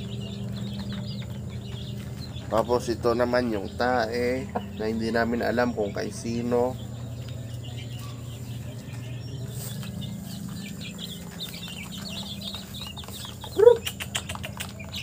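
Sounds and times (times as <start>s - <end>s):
chicken clucking: 0.0s - 15.0s
chicks peeping: 0.0s - 15.0s.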